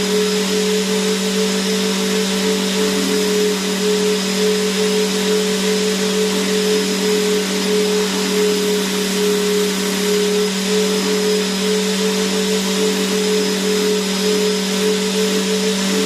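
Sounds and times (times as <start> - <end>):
vacuum cleaner motor running: 0.0 - 16.0.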